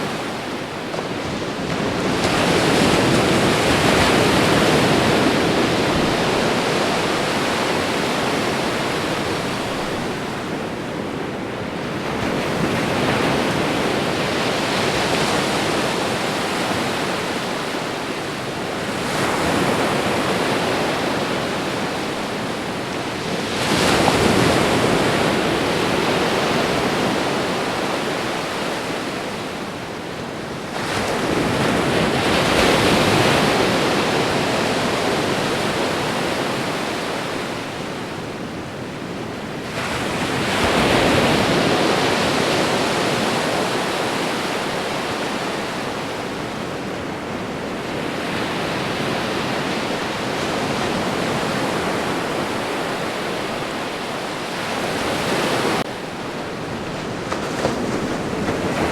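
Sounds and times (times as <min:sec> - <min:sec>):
ocean waves breaking on shore: 0:00.0 - 0:58.9.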